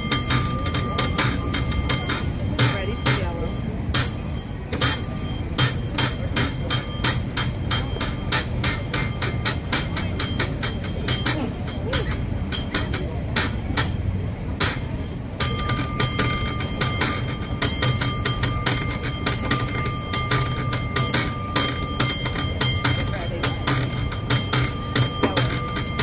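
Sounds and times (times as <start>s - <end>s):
cable car bell clanging: 0.0s - 26.0s.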